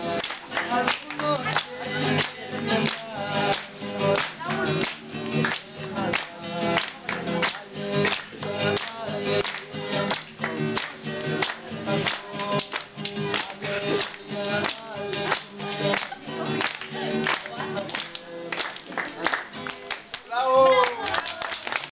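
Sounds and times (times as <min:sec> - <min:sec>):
group of people singing: 0:00.0 - 0:19.3
hand-clapping: 0:00.0 - 0:21.9.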